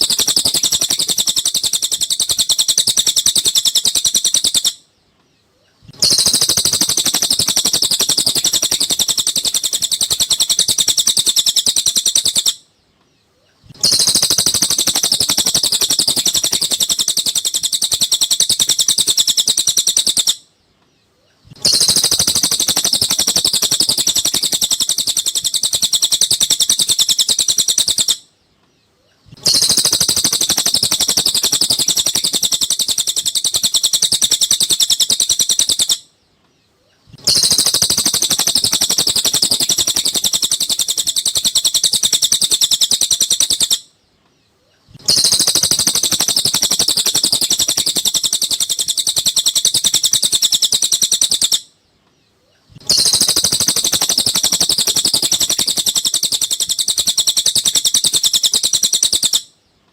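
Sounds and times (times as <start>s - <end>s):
bird twittering: 0.0s - 4.9s, 5.5s - 12.7s, 13.3s - 20.5s, 21.2s - 28.3s, 29.0s - 36.1s, 36.8s - 43.9s, 44.6s - 51.7s, 52.7s - 59.5s.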